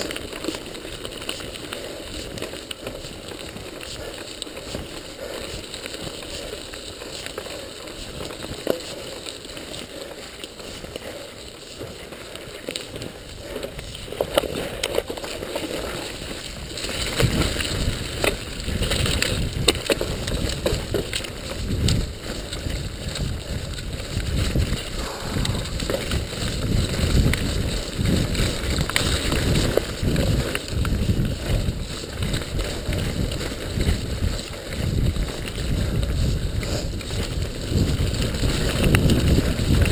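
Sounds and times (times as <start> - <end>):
bike chain and frame rattling: 0.0 - 39.9
tyres rolling over gravel: 0.0 - 39.9.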